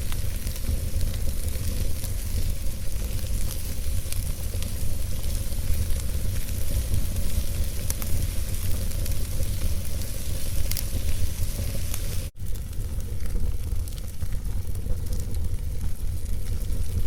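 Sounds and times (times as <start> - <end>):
fire crackles: 0.0 - 17.0
fire hissing and rumbling: 0.0 - 17.0.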